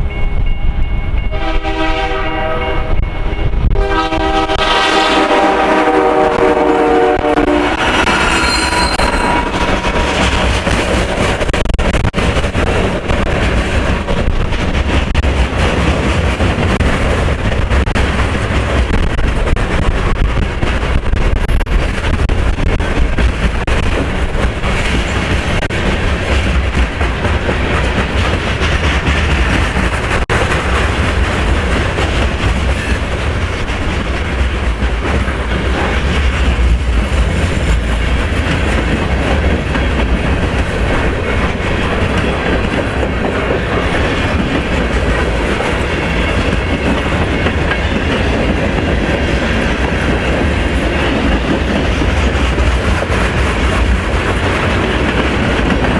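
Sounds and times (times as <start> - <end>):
freight train cars clattering: 0.0 - 55.9.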